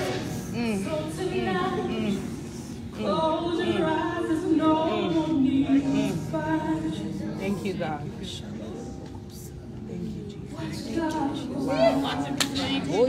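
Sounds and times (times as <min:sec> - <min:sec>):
unaccompanied gospel singing: 0:00.0 - 0:13.0.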